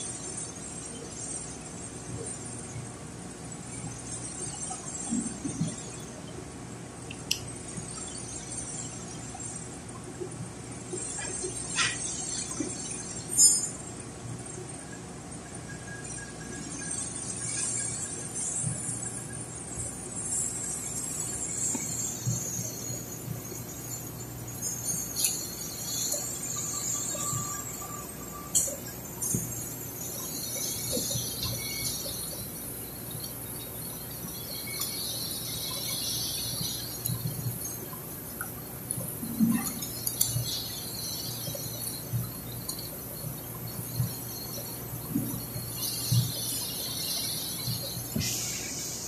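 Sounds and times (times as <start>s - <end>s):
steady hiss and low hum: 0.0s - 49.0s
insects chirring: 7.1s - 49.0s.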